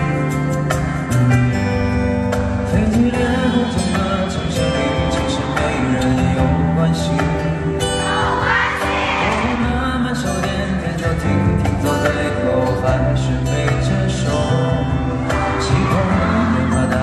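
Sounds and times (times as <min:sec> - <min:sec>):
live pop song: 0:00.0 - 0:17.0
man singing: 0:02.5 - 0:08.3, 0:09.1 - 0:17.0.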